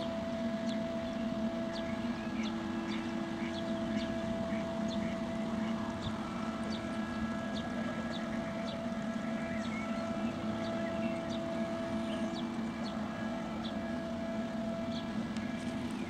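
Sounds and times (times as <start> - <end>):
ship diesel engine drone: 0.0 - 16.0.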